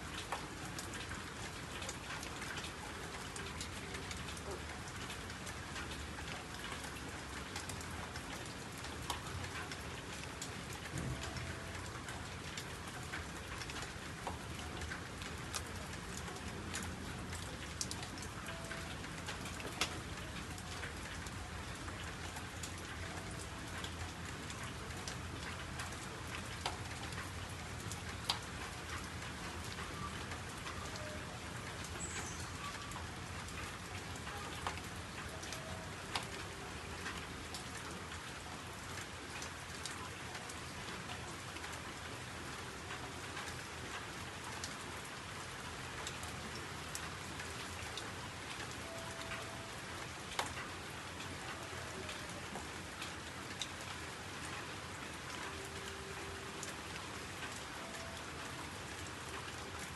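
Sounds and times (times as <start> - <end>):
raindrops ticking on surface: 0.0 - 59.9
steady rain: 0.0 - 59.9.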